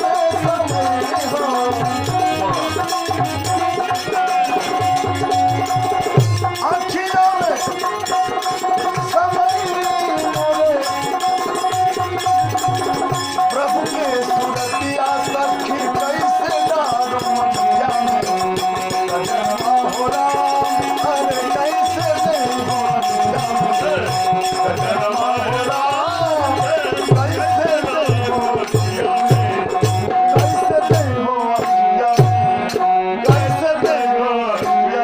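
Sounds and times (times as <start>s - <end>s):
devotional folk music: 0.0s - 35.0s
winding melody: 0.0s - 35.0s.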